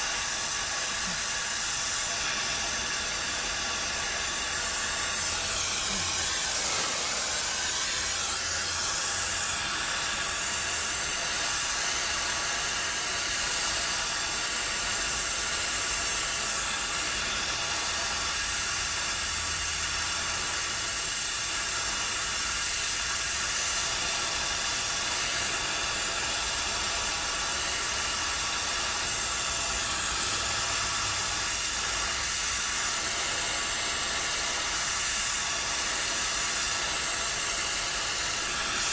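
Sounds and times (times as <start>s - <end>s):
torch flame hissing: 0.0s - 38.9s.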